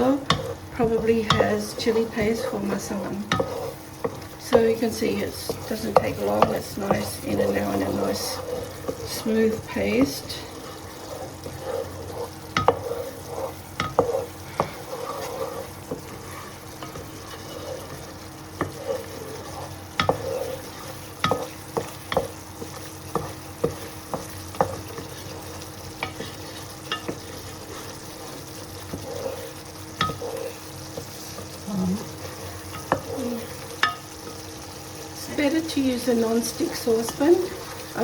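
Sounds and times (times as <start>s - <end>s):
curry paste sizzling: 0.0s - 38.0s
utensil scraping and knocking pan: 0.2s - 31.6s, 32.2s - 34.4s.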